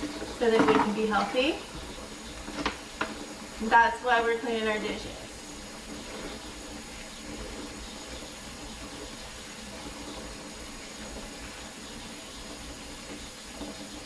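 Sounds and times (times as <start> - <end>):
dishes being washed: 0.0 - 14.0
faucet running into sink: 0.0 - 14.0.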